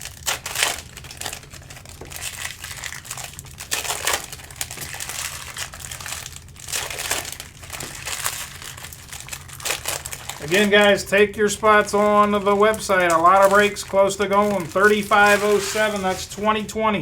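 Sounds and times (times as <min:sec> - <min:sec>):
foil wrappers and cards crinkling: 0:00.0 - 0:17.0.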